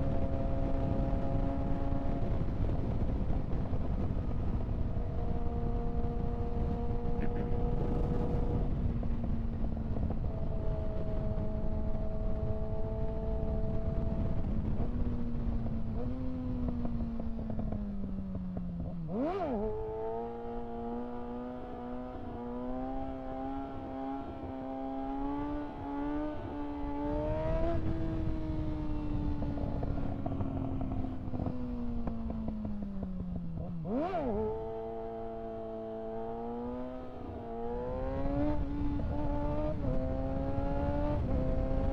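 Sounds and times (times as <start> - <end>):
motorcycle engine running: 0.0 - 41.9
wind rumble: 0.0 - 41.9.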